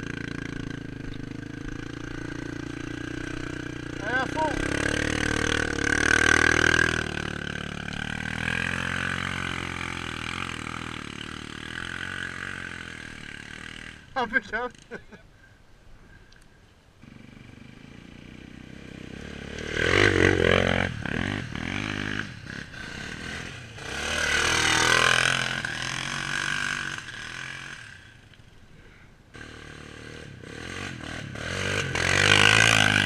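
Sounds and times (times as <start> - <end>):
quad bike engines revving: 0.0 - 15.2, 17.0 - 33.0.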